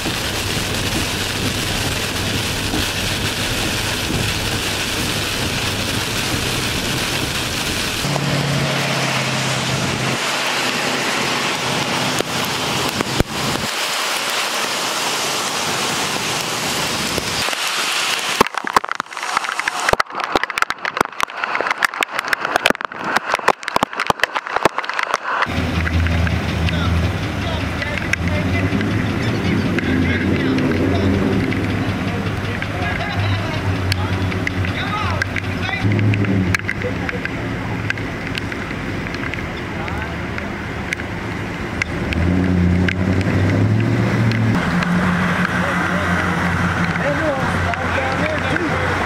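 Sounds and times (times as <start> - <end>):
crackling pops: 0.0 - 8.3, 11.5 - 14.3, 17.1 - 45.6
heavy rain on wet road: 0.0 - 49.0
low vehicle hum: 0.0 - 49.0.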